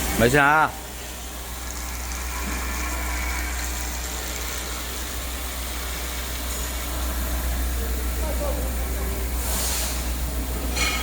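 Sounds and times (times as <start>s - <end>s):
drilling machine humming: 0.0s - 9.4s.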